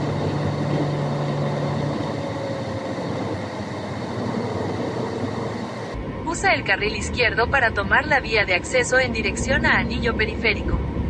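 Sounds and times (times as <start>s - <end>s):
road and traffic noise: 0.0s - 11.0s
steady low hum: 0.0s - 11.0s.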